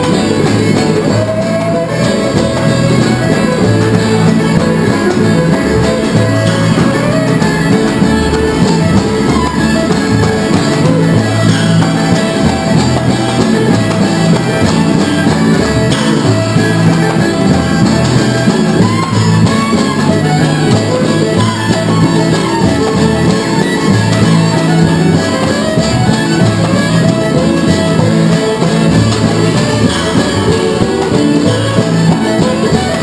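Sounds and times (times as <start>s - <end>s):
bowed fiddle: 0.0s - 33.0s
plucked upright bass: 0.0s - 33.0s
string instrument: 0.0s - 33.0s.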